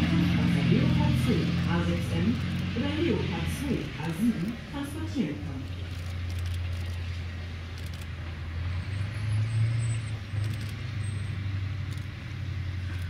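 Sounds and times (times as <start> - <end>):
heavy vehicle engine rumble: 0.0 - 13.0.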